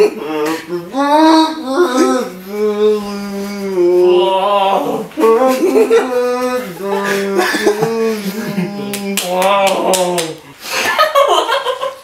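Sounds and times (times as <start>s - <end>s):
man singing with full mouth: 0.1s - 10.6s.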